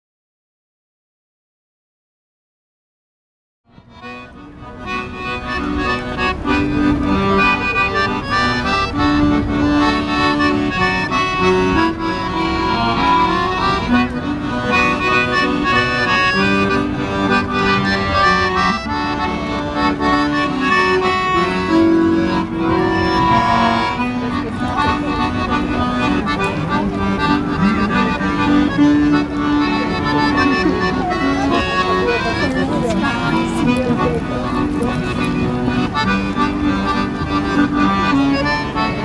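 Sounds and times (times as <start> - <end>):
accordion music: 3.7 - 39.0.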